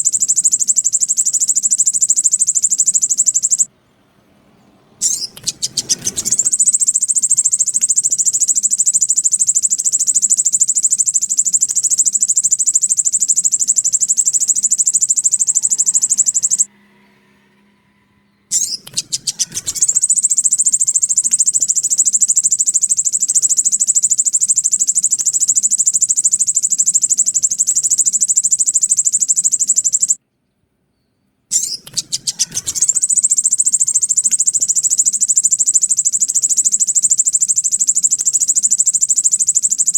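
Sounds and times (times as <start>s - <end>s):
bird song high trills: 0.0s - 3.7s, 4.6s - 30.2s, 31.0s - 39.9s.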